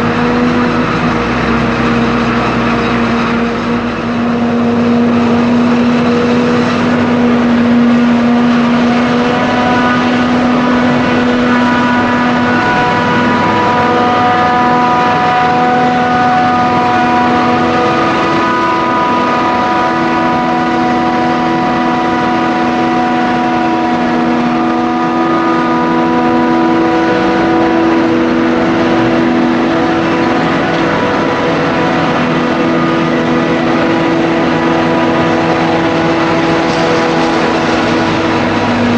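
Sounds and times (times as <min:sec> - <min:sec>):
diesel engines running under load: 0:00.0 - 0:38.9
higher engine note: 0:00.0 - 0:38.9.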